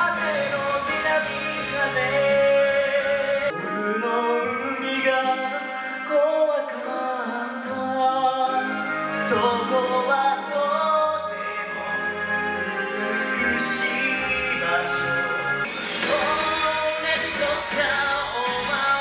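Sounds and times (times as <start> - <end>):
instrumental backing: 0.0 - 19.0
man singing: 0.0 - 19.0.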